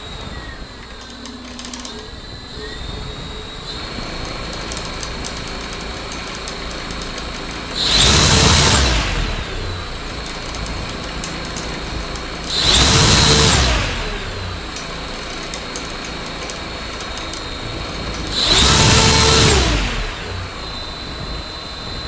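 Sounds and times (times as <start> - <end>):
electric motor spinning propeller: 0.1 - 22.0.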